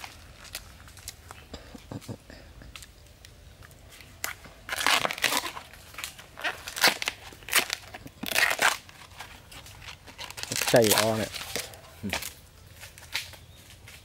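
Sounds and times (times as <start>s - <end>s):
bamboo shoot sheaths tearing: 0.0s - 1.4s, 2.7s - 13.9s.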